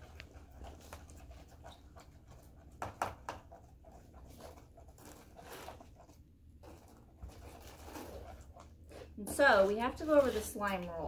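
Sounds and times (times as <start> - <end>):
spoons scraping plastic bowls: 0.0 - 11.0
sticky slime squelching: 0.0 - 11.0.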